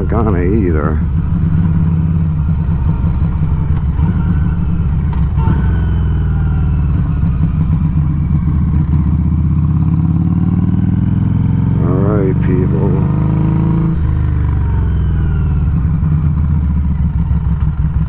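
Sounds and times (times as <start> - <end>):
motorcycle exhaust: 0.1 - 12.2, 12.8 - 18.0.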